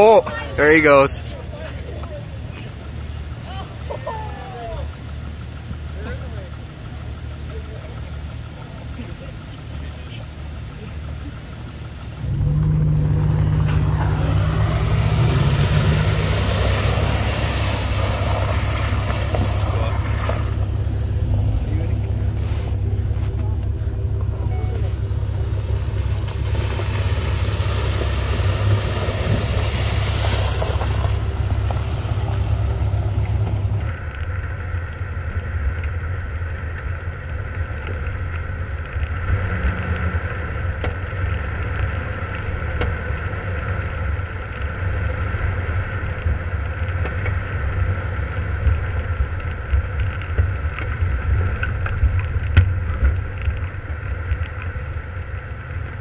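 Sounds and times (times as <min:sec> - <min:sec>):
vehicle driving on snow: 0:00.0 - 0:56.0
vehicle engine droning: 0:00.0 - 0:56.0.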